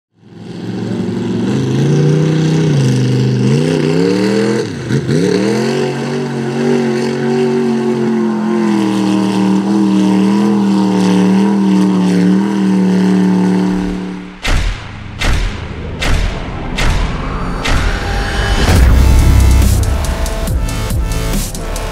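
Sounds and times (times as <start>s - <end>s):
truck engine revving under load: 0.3s - 21.9s.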